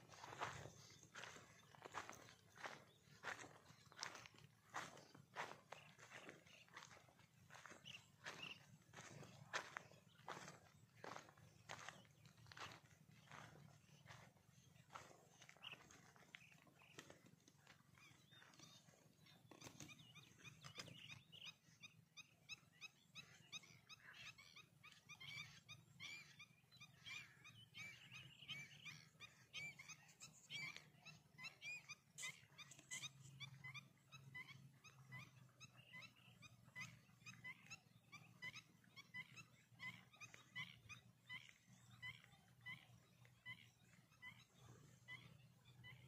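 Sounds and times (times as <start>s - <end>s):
high chirping animal calls: 0.0s - 46.0s.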